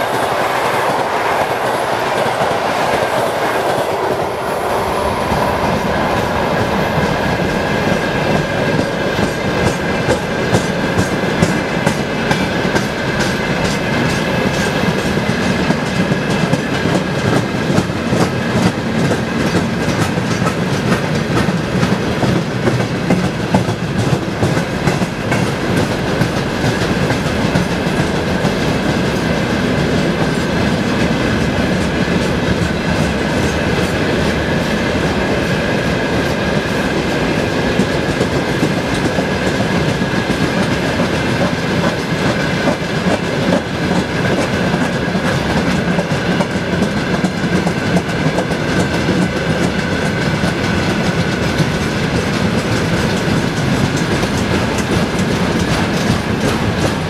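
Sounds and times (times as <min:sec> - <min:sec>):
freight train rumbling: 0:00.0 - 0:57.0
wheels clicking over rail joints: 0:06.6 - 0:35.2, 0:36.3 - 0:57.0.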